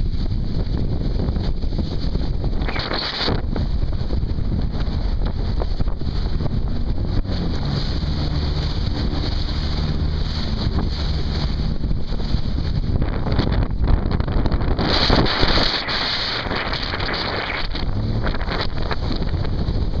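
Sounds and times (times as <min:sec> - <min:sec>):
jet ski engine running: 0:00.0 - 0:20.0
water rushing and splashing: 0:00.0 - 0:20.0
wind buffeting microphone: 0:00.0 - 0:20.0.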